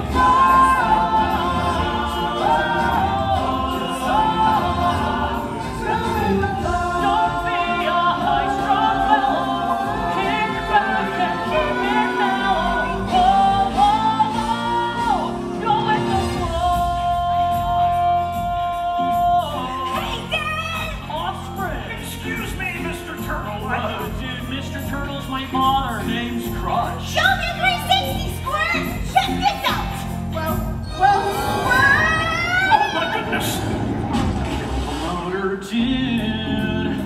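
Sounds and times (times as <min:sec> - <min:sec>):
voices singing show song: 0:00.0 - 0:33.9, 0:34.8 - 0:37.0
backing music: 0:00.0 - 0:37.0.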